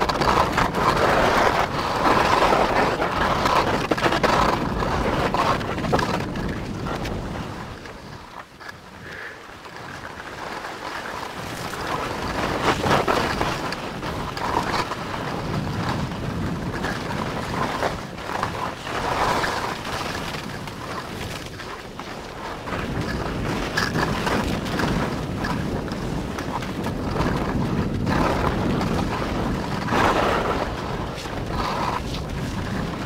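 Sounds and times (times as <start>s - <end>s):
skis scraping over snow: 0.0s - 33.0s
wind buffeting microphone: 0.0s - 33.0s.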